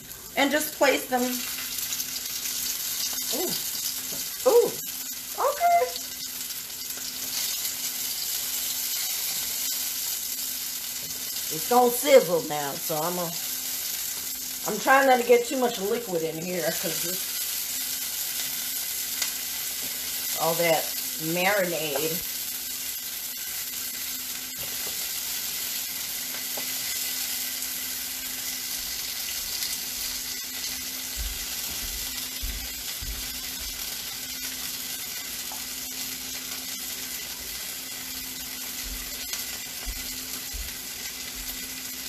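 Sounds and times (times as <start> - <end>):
vegetables sizzling in a skillet: 0.0 - 42.0.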